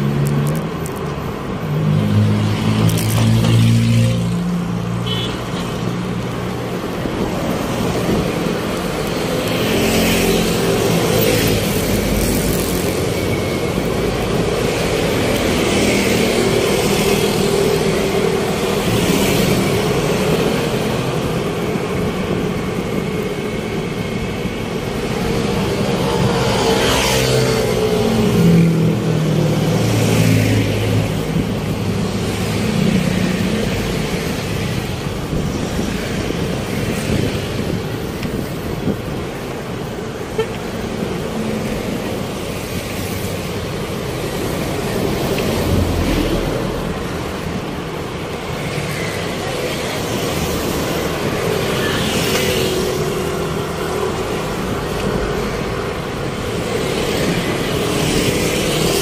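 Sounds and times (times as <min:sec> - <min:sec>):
vehicles passing close by: 0:00.0 - 0:59.0.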